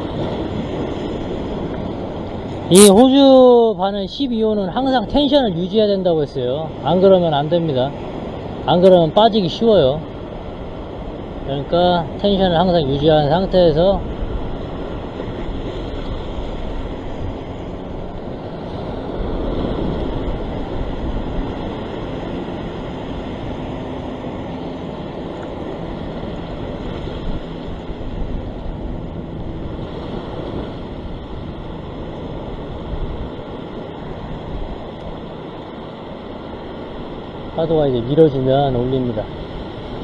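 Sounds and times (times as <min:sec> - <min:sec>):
surf washing over rock ledge: 0:00.0 - 0:40.0
wind buffeting microphone: 0:03.6 - 0:40.0.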